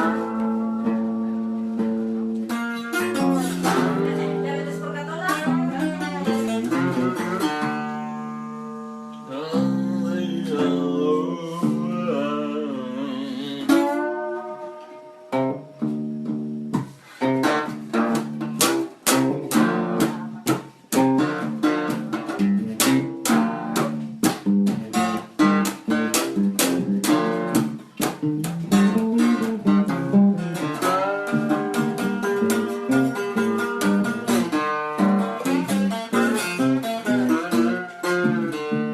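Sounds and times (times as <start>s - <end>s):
guitar ringing bent notes: 0.0s - 38.9s
guitar strummed chords: 0.0s - 38.9s.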